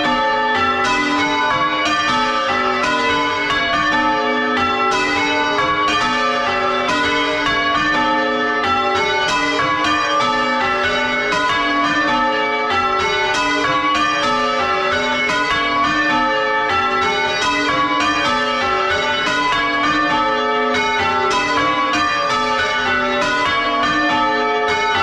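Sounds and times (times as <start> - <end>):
church bells change ringing: 0.0 - 25.0.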